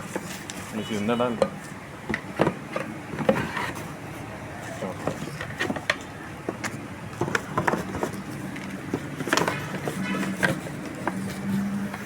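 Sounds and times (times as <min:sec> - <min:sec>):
knocks clicks and rustles: 0:00.0 - 0:04.0, 0:04.6 - 0:12.0.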